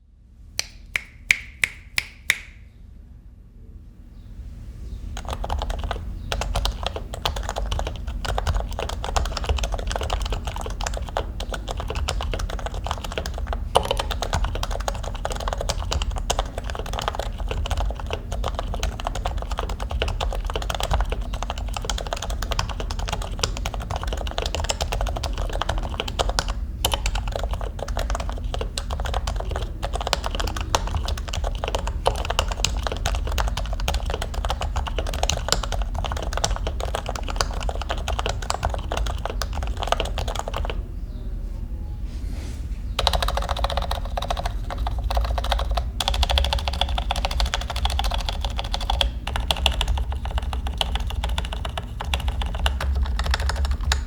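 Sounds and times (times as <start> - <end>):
rapid keyboard typing: 5.1 - 40.8, 43.0 - 54.0.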